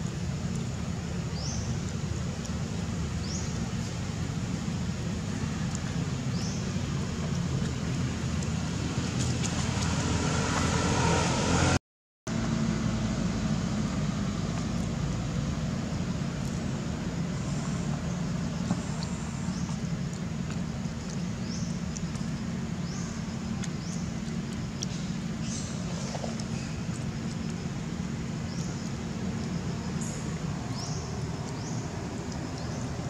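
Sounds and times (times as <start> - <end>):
low outdoor background rumble: 0.0 - 33.0.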